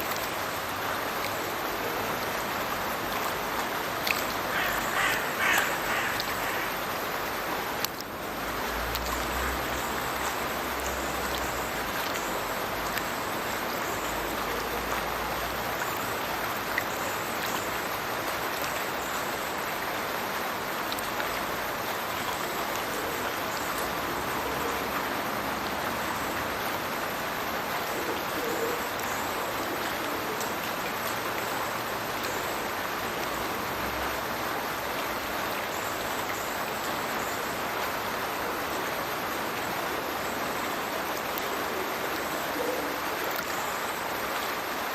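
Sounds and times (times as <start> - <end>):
water rushing and splashing: 0.0 - 44.9.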